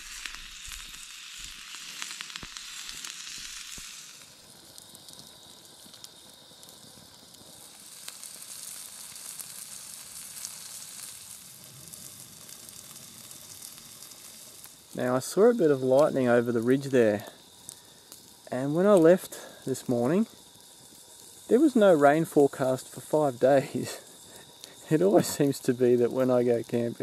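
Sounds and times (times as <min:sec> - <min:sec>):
ribs sizzling on hot rock: 0:00.0 - 0:27.0.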